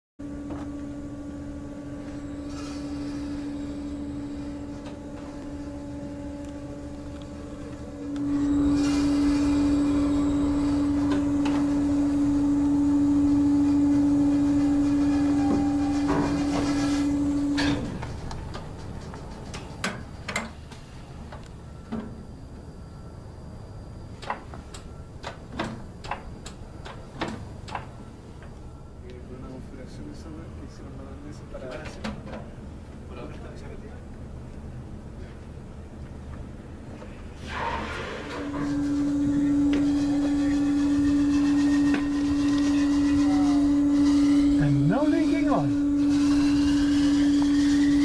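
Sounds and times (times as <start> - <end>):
machinery humming: 0.2 - 31.8, 32.4 - 48.0.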